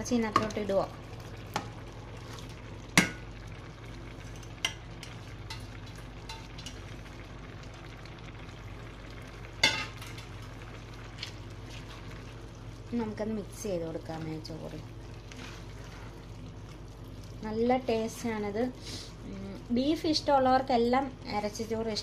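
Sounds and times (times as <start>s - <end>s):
pot simmering with low sizzle: 0.0s - 22.0s.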